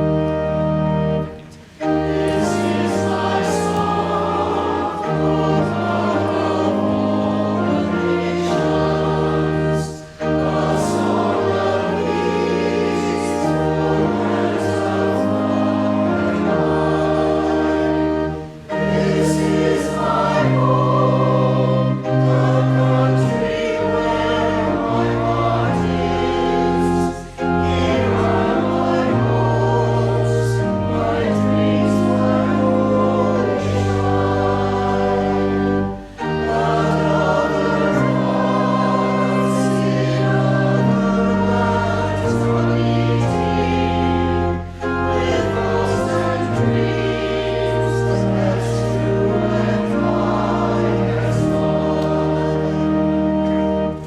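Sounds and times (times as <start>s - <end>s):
church choir singing a hymn: 0.0s - 54.0s
organ accompaniment: 0.0s - 54.0s.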